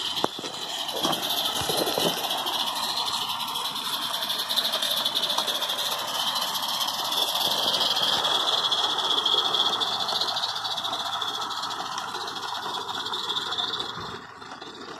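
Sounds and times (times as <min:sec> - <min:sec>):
steam locomotive exhaust beats: 0:00.0 - 0:14.9.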